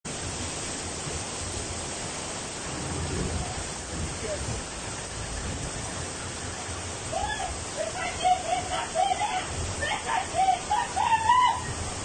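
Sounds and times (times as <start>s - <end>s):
heavy rain and floodwater: 0.0s - 12.0s.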